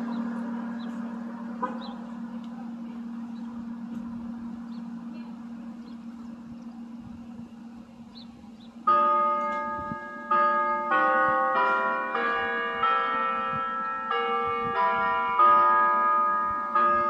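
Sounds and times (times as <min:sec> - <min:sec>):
low hum: 0:00.0 - 0:15.1
faint street noise: 0:00.0 - 0:17.0.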